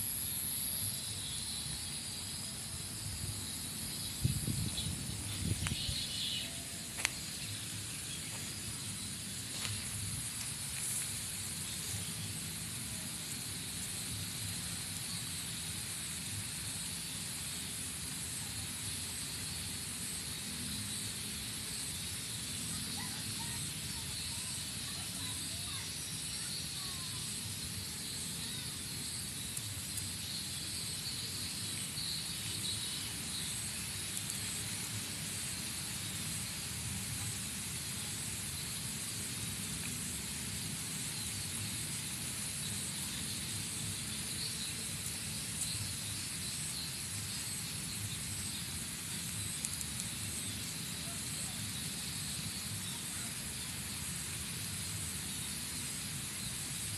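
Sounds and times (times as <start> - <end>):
high hiss: 0.0 - 56.9.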